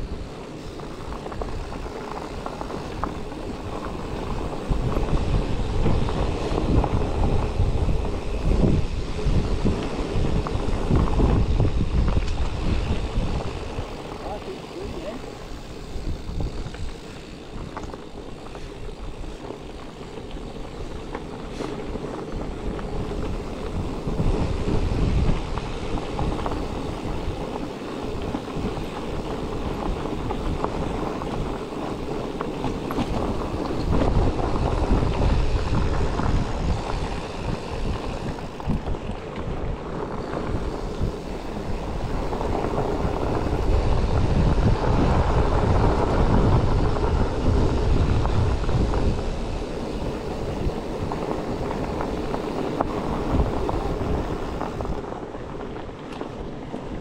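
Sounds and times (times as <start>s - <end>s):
bike rattles and knocks: 0.0s - 57.0s
bike tyres rumbling on rough trail: 0.0s - 57.0s
wind buffeting microphone: 0.0s - 57.0s.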